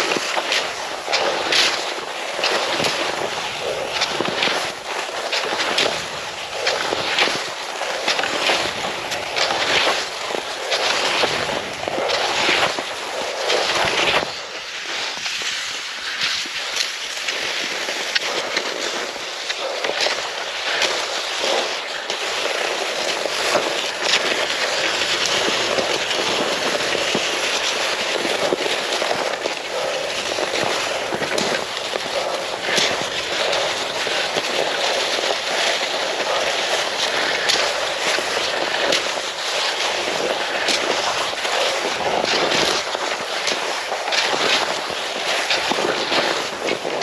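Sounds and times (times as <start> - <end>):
skis scraping over crusty snow: 0.0 - 47.0.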